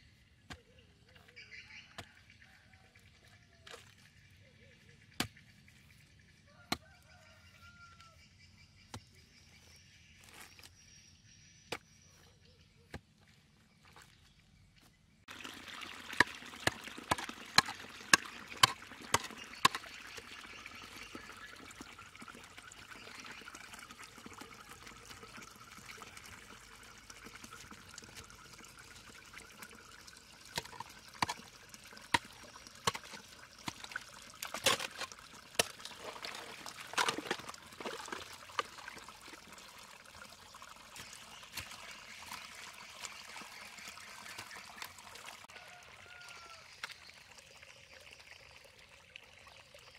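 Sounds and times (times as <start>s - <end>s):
muddy water trickling and pouring: 0.6s - 8.2s, 13.2s - 49.9s.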